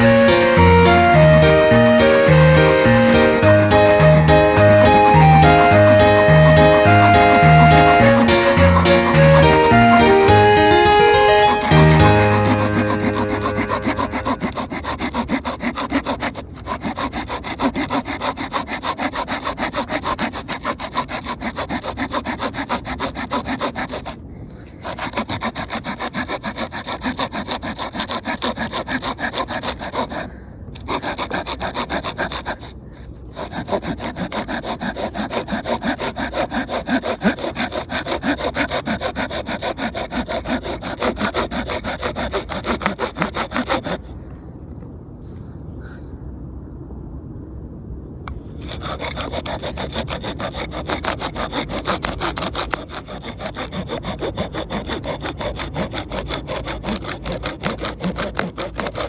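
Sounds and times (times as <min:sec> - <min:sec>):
hand saw cutting wood: 0:00.0 - 0:44.2, 0:48.6 - 0:59.0.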